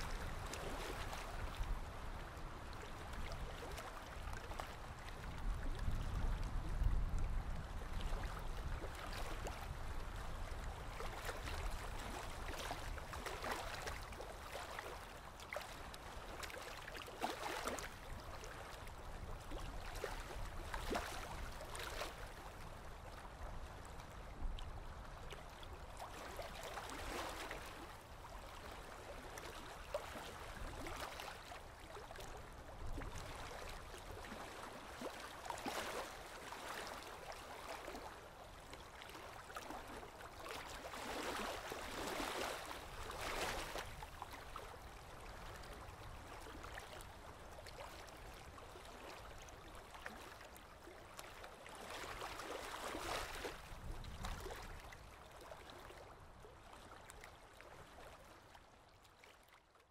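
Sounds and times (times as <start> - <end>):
river water lapping: 0.0 - 59.6.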